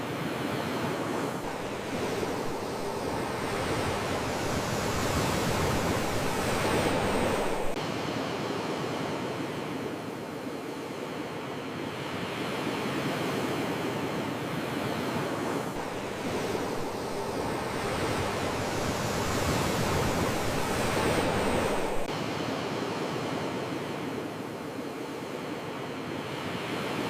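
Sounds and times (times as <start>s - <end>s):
ocean surf washing: 0.0s - 27.0s.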